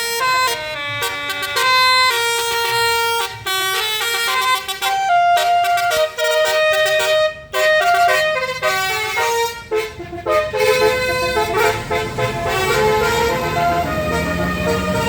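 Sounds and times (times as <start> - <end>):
bus engine running: 0.0 - 15.0
bus horn playing melody: 0.0 - 15.0.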